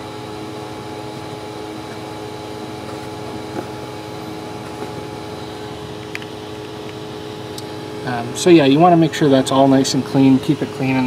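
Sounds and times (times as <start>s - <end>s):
electric fans humming: 0.0s - 11.0s.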